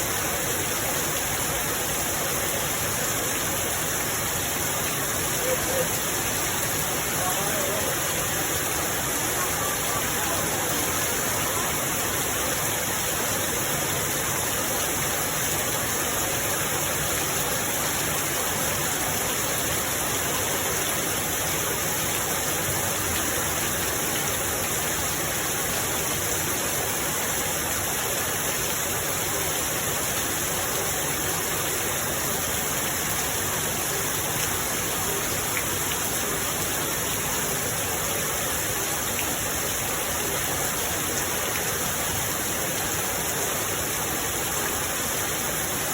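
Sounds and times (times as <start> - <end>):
rain falling steadily: 0.0 - 45.9.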